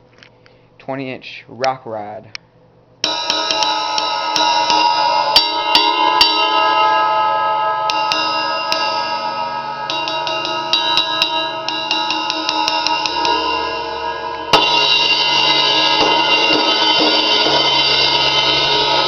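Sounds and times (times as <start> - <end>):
ride cymbal tapped ringing: 3.0 - 19.0.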